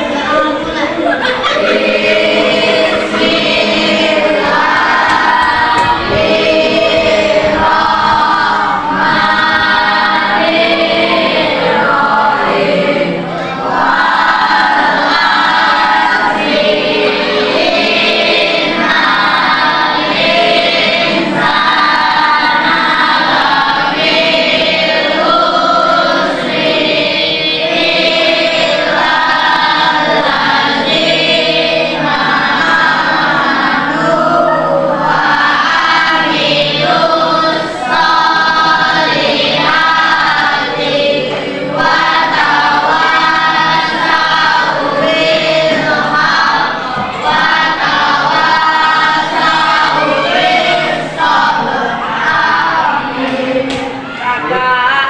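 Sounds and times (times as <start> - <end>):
children singing in unison: 0.0 - 55.0.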